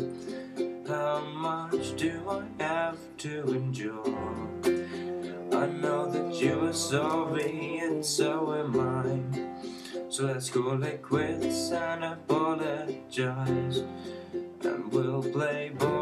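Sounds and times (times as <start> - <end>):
acoustic string instrumental music: 0.0 - 16.0.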